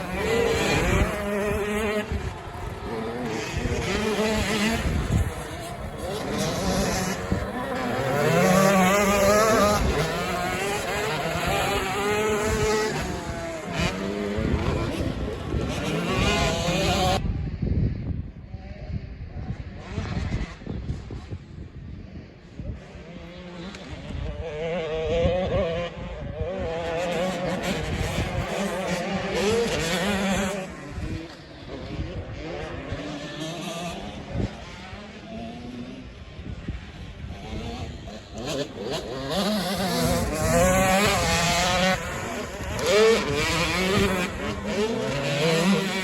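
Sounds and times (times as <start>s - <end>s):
dirt bike engines revving: 0.0s - 17.2s, 18.6s - 46.0s.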